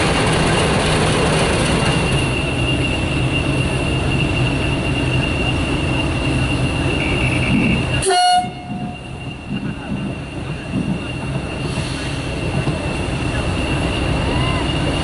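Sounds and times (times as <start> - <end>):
locomotive engine running: 0.0 - 15.0.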